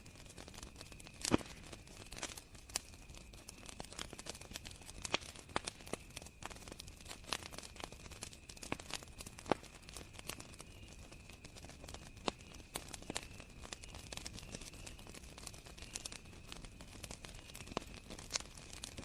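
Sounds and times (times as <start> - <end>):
campfire crackling: 0.0 - 19.0
cricket trill: 0.0 - 19.0.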